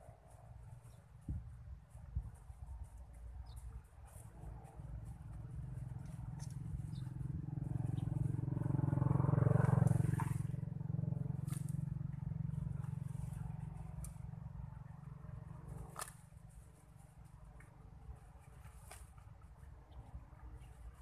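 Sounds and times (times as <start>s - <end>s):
vehicle engine passing: 2.9s - 21.0s.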